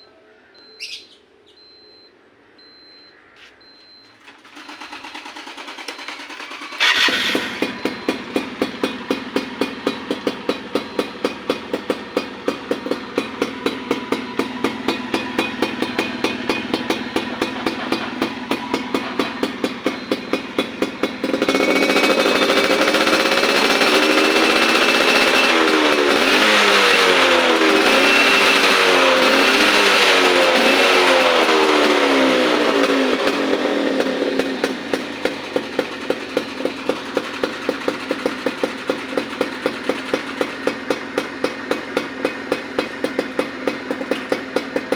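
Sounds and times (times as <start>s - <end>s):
two-stroke engine revving: 4.3s - 44.9s.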